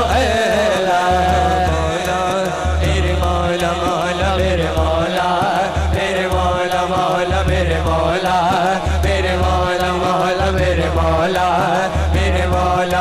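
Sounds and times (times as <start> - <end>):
man singing: 0.0 - 13.0
ticking beat: 0.0 - 13.0.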